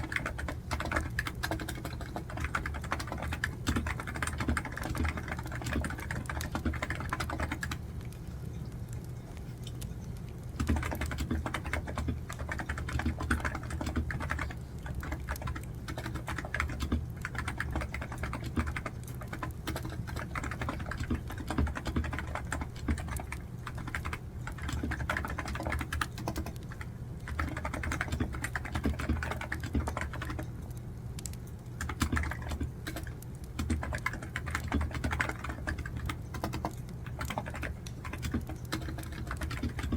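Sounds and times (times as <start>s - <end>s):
computer keyboard typing: 0.0s - 8.7s, 9.6s - 39.9s.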